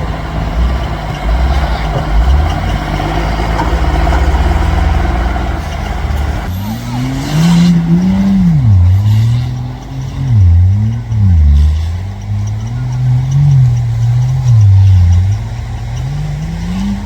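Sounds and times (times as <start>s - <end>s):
engine droning and revving: 0.0s - 17.0s.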